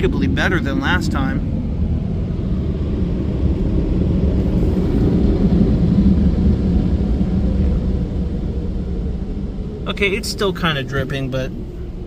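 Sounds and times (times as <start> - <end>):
car wash dryer blowers rumbling: 0.0 - 12.0.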